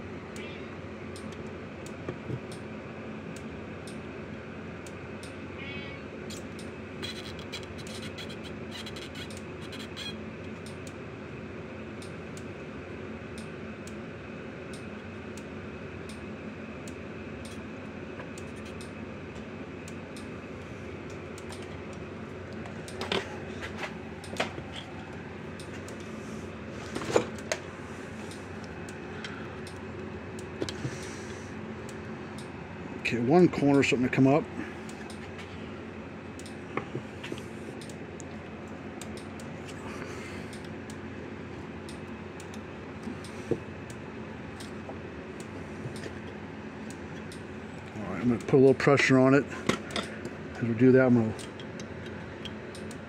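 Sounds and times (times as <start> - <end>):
low background hum: 0.0 - 53.0.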